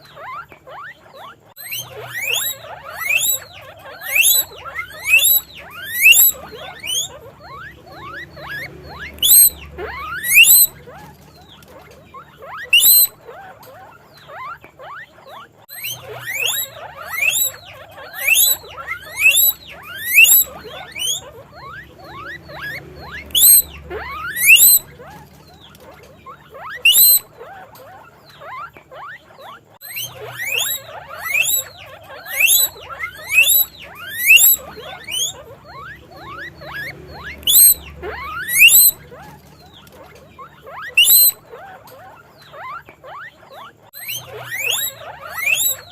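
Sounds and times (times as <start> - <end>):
guinea pigs squealing: 0.0 - 45.9.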